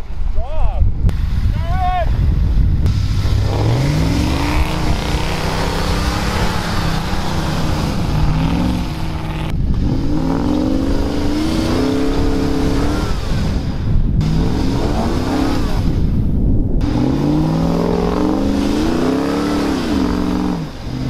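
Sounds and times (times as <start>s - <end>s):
truck engine revving hard: 2.8s - 21.0s.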